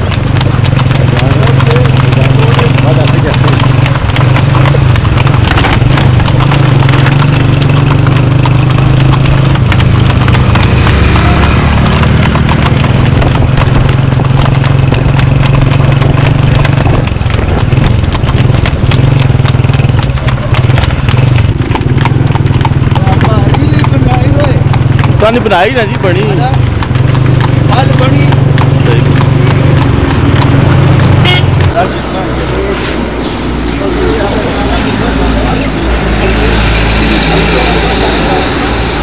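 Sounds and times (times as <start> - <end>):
hooves clip-clopping on pavement: 0.0 - 39.0.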